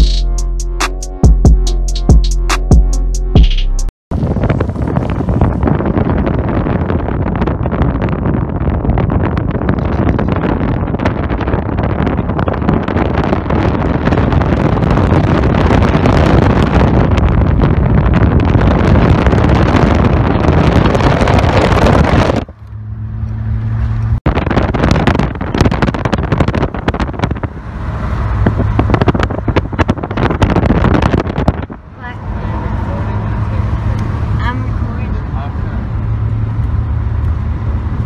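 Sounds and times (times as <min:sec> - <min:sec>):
car road and engine noise: 0:00.0 - 0:38.0
wind buffeting microphone: 0:04.1 - 0:22.7, 0:23.5 - 0:38.0.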